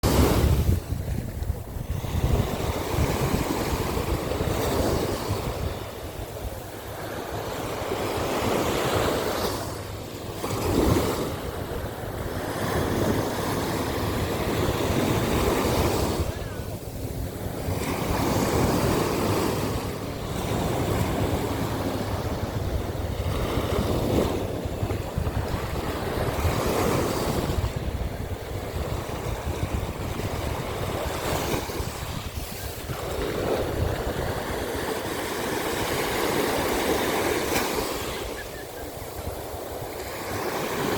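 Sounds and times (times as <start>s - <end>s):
sea waves breaking on beach: 0.0s - 40.9s
wind rumbling on microphone: 0.0s - 40.9s.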